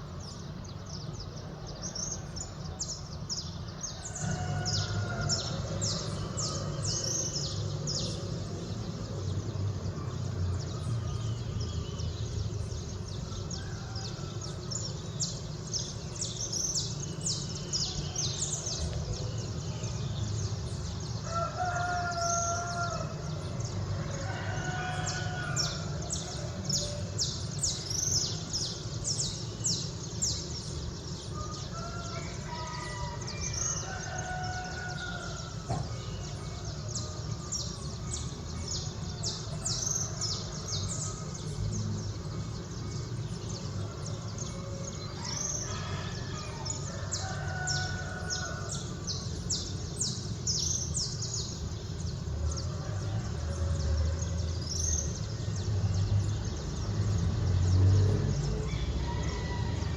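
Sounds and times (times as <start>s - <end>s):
small songbirds chirping: 0.0s - 59.9s
roosters crowing: 1.8s - 12.1s, 12.8s - 59.9s.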